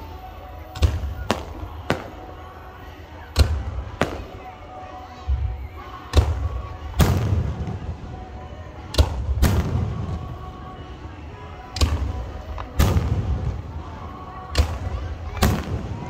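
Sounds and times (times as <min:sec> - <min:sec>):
fireworks bangs: 0:00.6 - 0:16.0.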